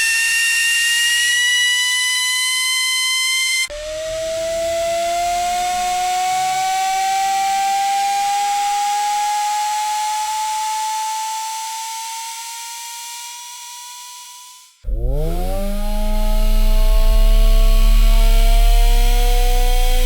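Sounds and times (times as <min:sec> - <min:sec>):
electric motor whine rising: 0:00.0 - 0:20.0.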